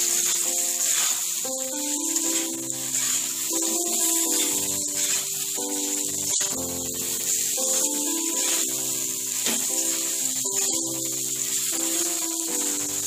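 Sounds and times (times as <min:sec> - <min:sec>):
spatula stirring: 0:00.0 - 0:10.8
slow background music: 0:00.0 - 0:13.0
vegetables sizzling in hot oil: 0:00.0 - 0:13.0.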